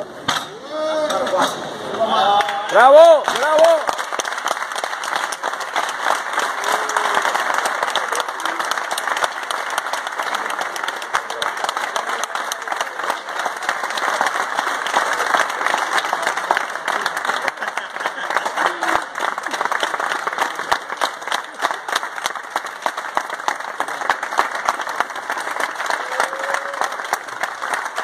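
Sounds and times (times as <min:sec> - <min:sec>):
crowd clapping: 0:02.2 - 0:28.0.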